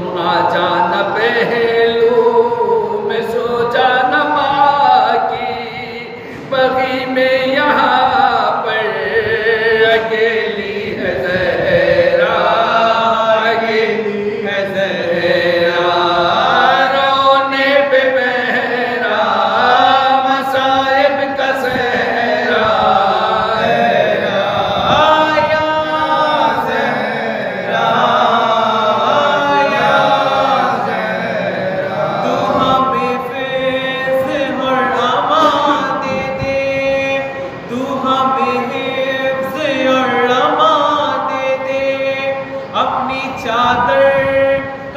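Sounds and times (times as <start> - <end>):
man chanting into a microphone: 0.0 - 44.9.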